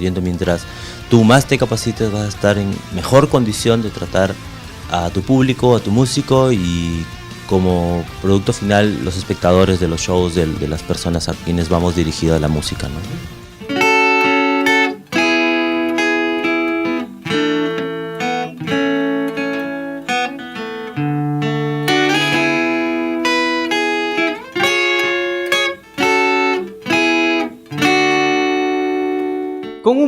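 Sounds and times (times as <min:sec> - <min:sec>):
acoustic guitar strumming chords: 0:00.0 - 0:30.0.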